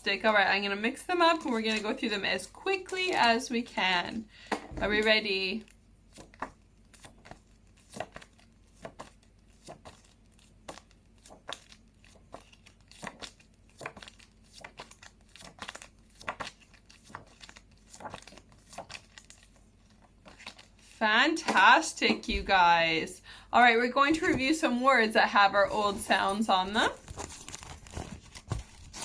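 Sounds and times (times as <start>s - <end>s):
paper flashcards rustling: 0.2s - 3.8s, 4.4s - 29.0s.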